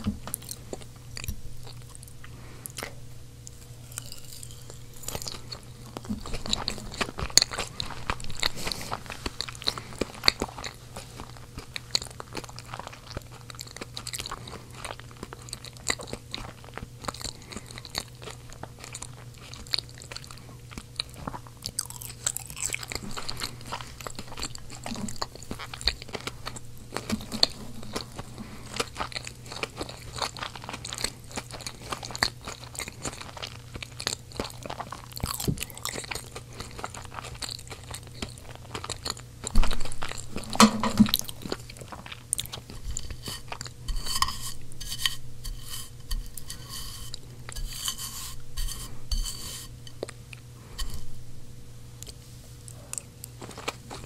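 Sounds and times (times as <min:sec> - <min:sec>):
crunchy chewing: 0:00.0 - 0:54.0
steady low hum: 0:00.0 - 0:54.0.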